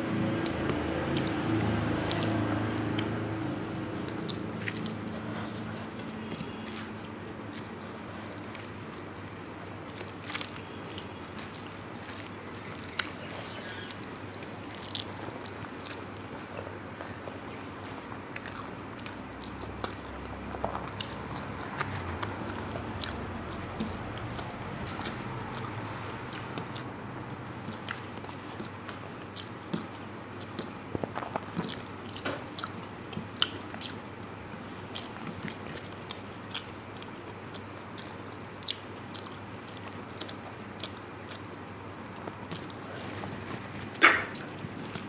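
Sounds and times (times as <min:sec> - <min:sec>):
chewing food: 0:00.0 - 0:45.0.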